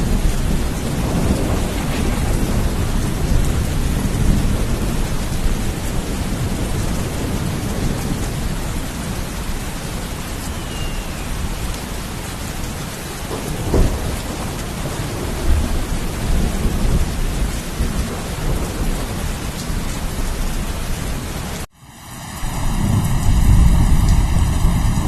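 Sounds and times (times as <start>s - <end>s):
rolling thunder: 0.0s - 21.6s, 22.4s - 25.0s
heavy rain: 0.0s - 25.0s.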